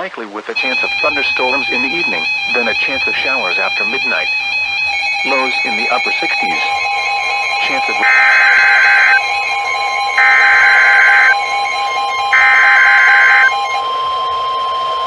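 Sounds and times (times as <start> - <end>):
digital data screeches: 0.6 - 15.0
faint steady tone: 0.6 - 15.0.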